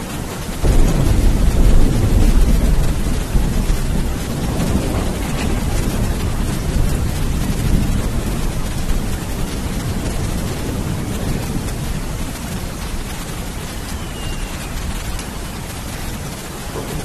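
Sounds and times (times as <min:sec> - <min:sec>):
heavy rain: 0:00.0 - 0:17.0
rolling thunder rumble: 0:00.0 - 0:17.0.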